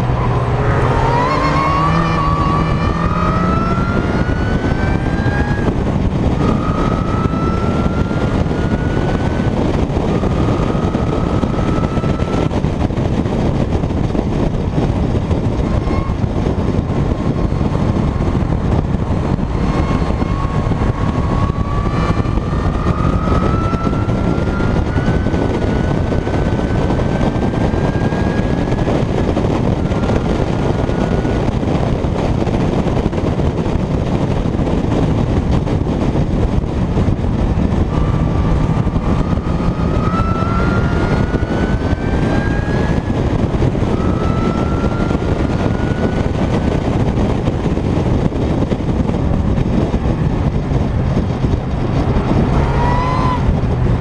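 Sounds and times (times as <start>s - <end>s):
car engine accelerating: 0.0s - 54.0s
wind noise: 0.0s - 54.0s.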